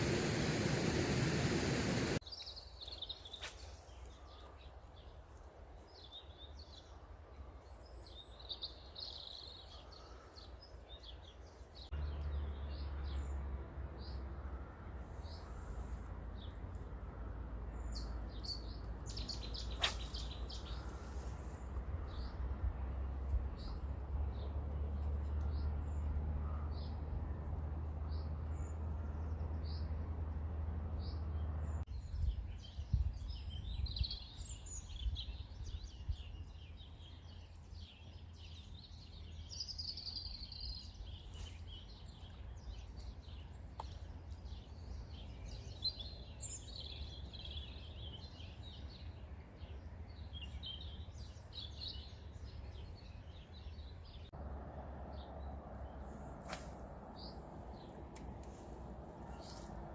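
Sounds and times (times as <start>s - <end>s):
small birds chirping: 0.1s - 13.4s, 17.6s - 27.0s, 31.0s - 59.9s.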